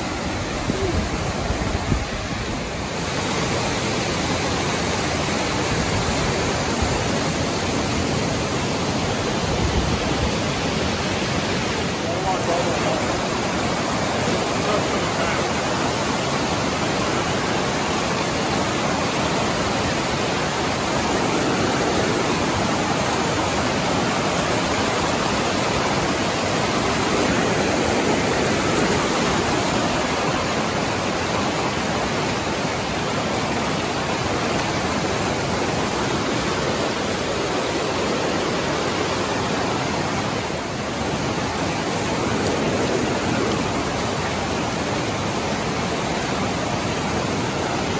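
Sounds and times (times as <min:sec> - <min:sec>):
waterfall rushing over rock: 0:00.0 - 0:47.9.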